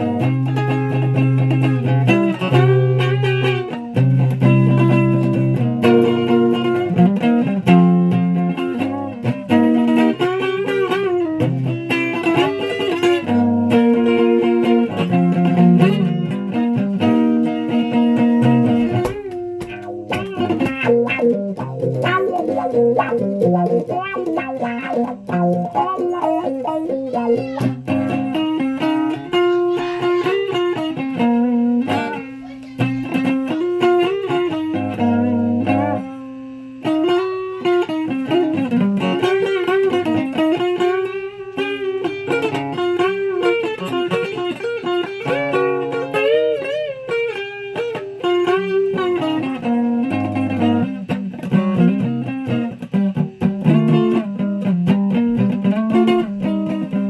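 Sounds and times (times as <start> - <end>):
guitar plucked notes: 0.0 - 57.0.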